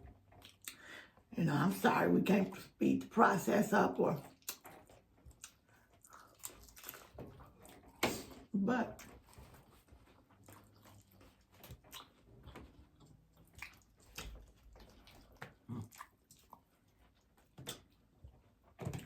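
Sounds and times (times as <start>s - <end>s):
chewing sounds: 0.3s - 1.8s, 4.2s - 19.0s.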